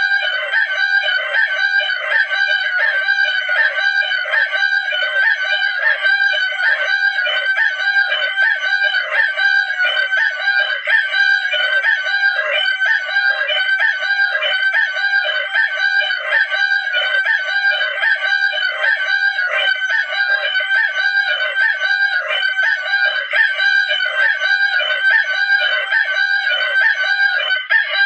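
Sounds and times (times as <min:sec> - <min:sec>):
rooster crowing: 0:00.0 - 0:28.0.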